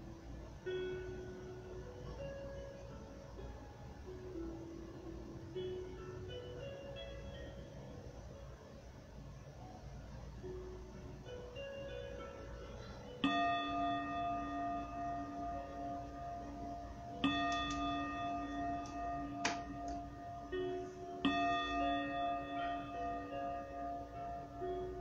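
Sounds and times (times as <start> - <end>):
soft slow meditation music: 0.0 - 25.0.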